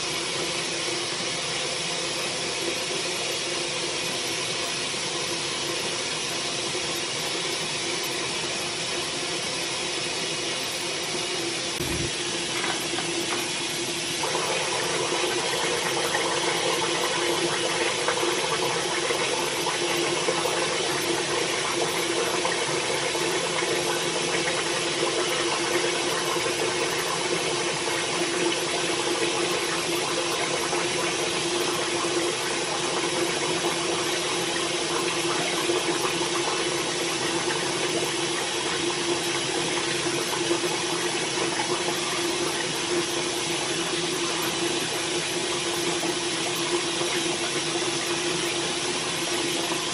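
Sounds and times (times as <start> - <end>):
sink tap running: 0.0 - 49.9.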